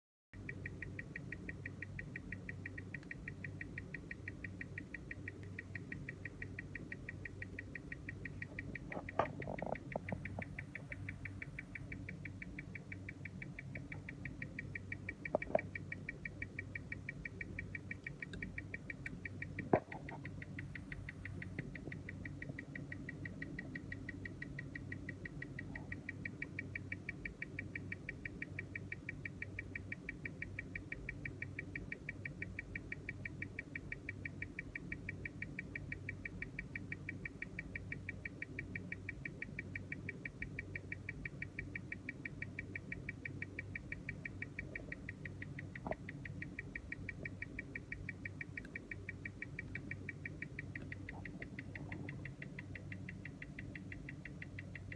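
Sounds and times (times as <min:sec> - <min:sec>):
rapid watch ticking: 0:00.4 - 0:54.9
steady low hum: 0:00.4 - 0:54.9.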